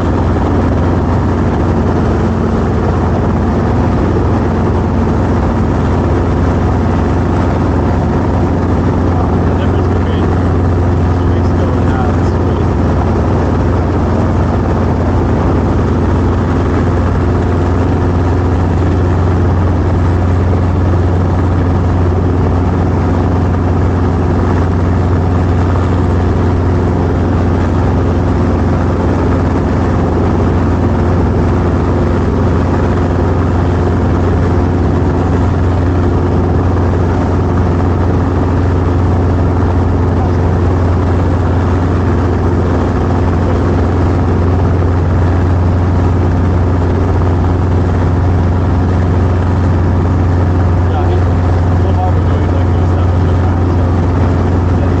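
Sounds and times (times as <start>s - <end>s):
helicopter engine and rotors: 0.0s - 55.0s.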